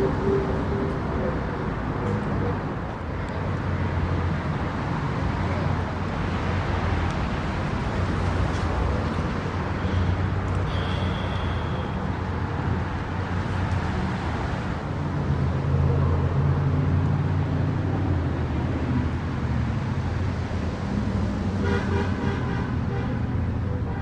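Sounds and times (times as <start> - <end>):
engines humming: 0.0 - 21.7.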